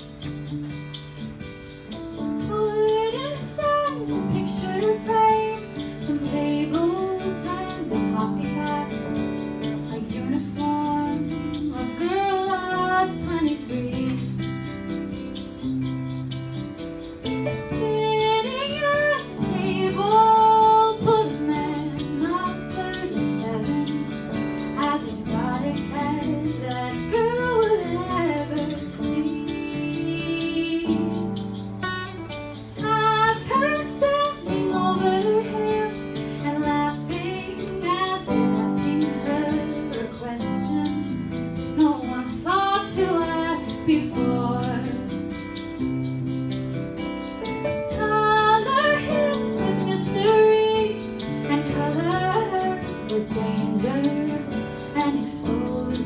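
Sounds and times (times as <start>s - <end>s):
instrumental accompaniment: 0.0s - 56.0s
woman singing: 2.2s - 14.8s, 17.3s - 45.6s, 47.8s - 56.0s.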